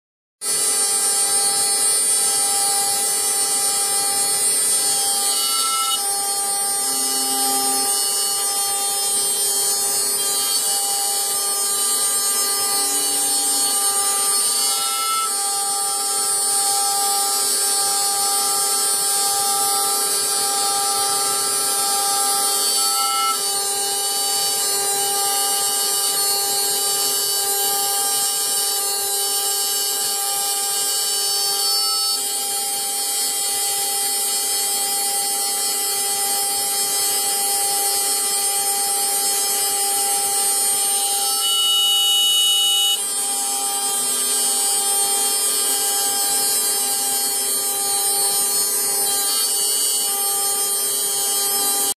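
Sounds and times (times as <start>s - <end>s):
cnc router spindle whine milling metal: 0.4s - 51.9s.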